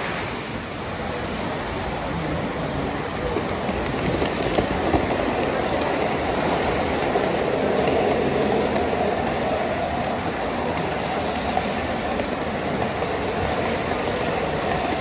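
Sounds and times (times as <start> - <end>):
model train wheels rumbling on rails: 0.0 - 15.0
light rapid clicking: 1.6 - 15.0.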